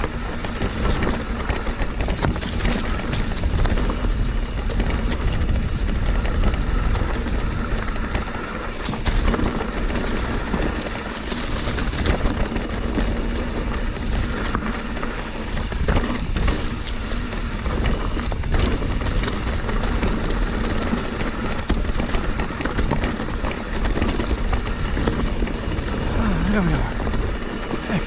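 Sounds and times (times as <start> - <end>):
bike knocking and rattling: 0.0 - 28.0
bike tyres rolling over rocks: 0.0 - 28.0
wind noise on microphone: 0.0 - 28.0.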